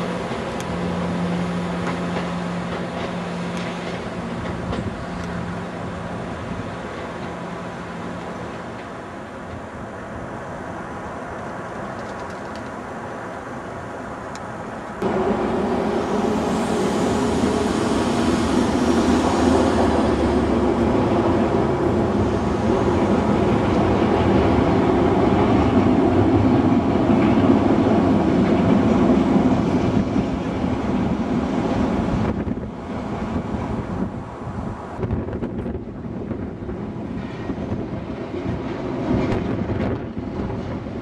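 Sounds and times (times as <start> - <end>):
train rumbling over bridge: 0.0 - 41.0.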